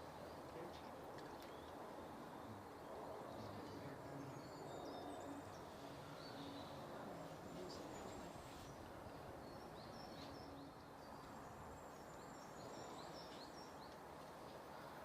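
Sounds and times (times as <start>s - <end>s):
woodland background noise: 0.0s - 15.0s.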